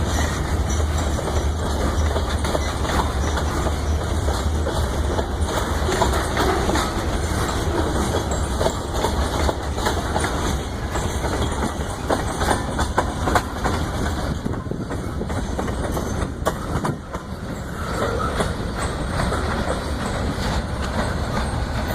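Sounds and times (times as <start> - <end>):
train rumble: 0.0 - 21.9
train wheels clacking on rail joints: 0.0 - 21.9.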